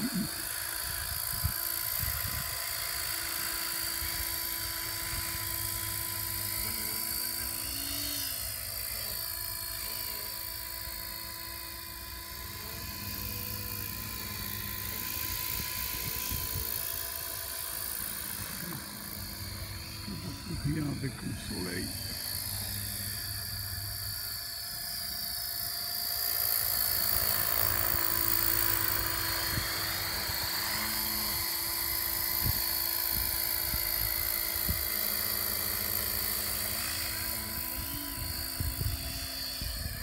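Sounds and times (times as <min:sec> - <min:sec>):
model helicopter motor whine: 0:00.0 - 0:40.0.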